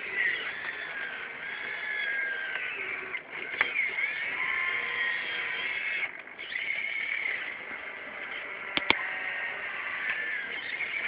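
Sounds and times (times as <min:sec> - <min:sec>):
toy excavator motors whining: 0:00.0 - 0:11.0.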